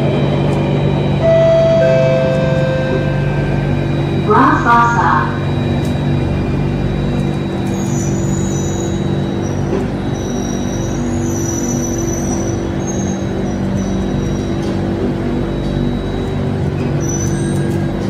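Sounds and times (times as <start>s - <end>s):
train electric hum: 0.0s - 18.0s.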